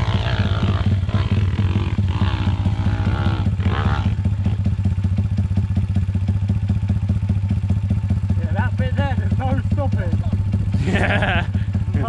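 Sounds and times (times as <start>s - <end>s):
distant dirt bike engine: 0.0s - 12.0s
pit bike engine idling: 0.0s - 12.0s.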